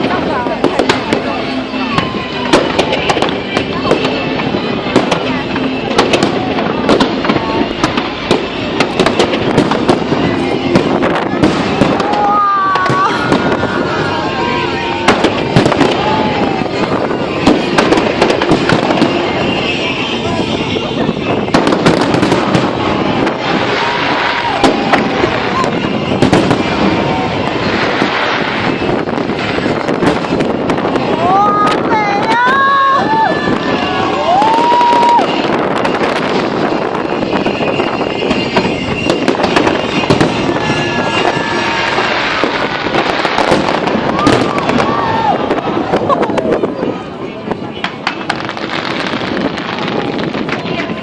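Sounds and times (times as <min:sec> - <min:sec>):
continuous rumbling: 0:00.0 - 0:51.0
crowd voices: 0:00.0 - 0:51.0
fireworks bangs and crackles: 0:00.0 - 0:51.0.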